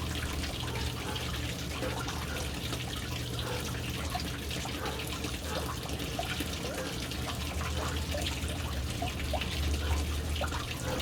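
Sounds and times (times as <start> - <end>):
water pouring into a tank: 0.0 - 11.0.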